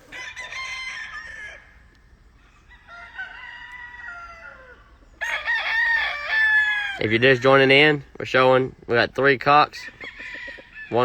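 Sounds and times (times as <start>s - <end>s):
roosters crowing: 0.0s - 11.0s.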